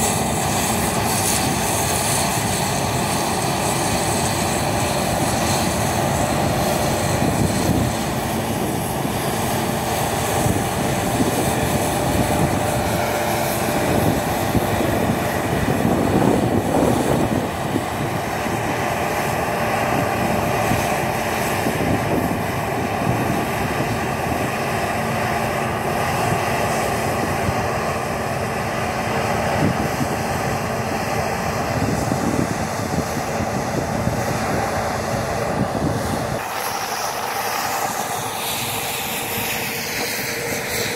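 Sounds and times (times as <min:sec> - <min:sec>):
combine harvester engine and machinery drone: 0:00.0 - 0:40.9.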